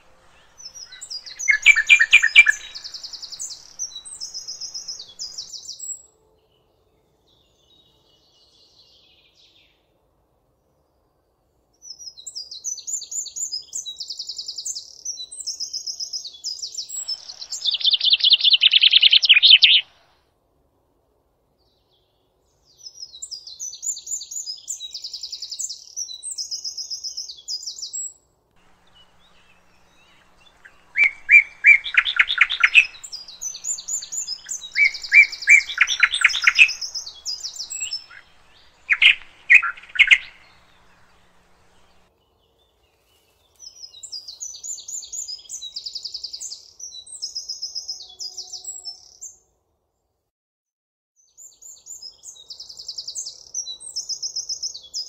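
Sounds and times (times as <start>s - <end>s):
songbirds chirping and trilling: 0.0s - 9.8s, 10.6s - 20.2s, 21.6s - 49.5s, 51.2s - 55.0s.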